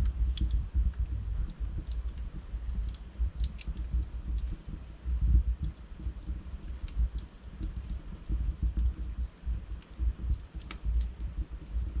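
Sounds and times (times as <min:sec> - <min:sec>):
logs crackling and popping: 0:00.0 - 0:12.0
low fluttering rumble of flames: 0:00.0 - 0:12.0.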